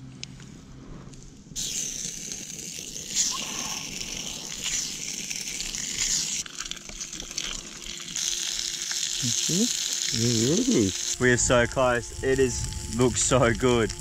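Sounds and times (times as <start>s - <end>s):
fish sizzling on hot plate: 1.6s - 14.0s.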